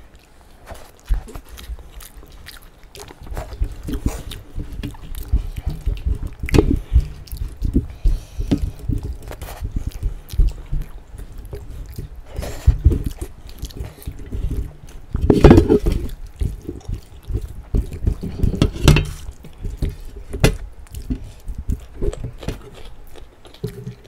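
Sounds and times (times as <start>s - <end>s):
people chewing: 0.0s - 24.0s
fingers mixing rice on steel plates: 3.0s - 24.0s.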